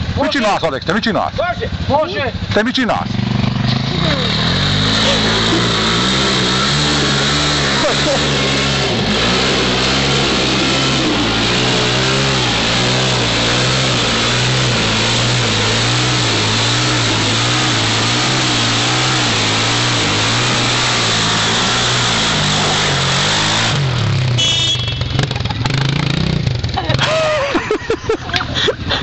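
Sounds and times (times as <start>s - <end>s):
quad bike engine revving: 0.0s - 29.0s.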